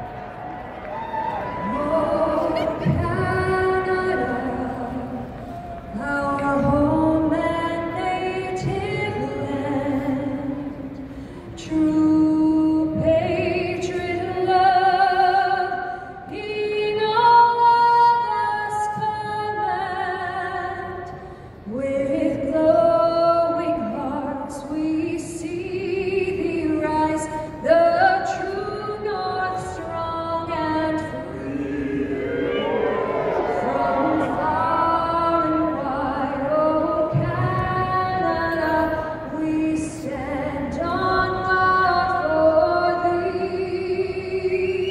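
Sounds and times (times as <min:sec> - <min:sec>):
woman singing with vibrato: 0:01.4 - 0:44.9.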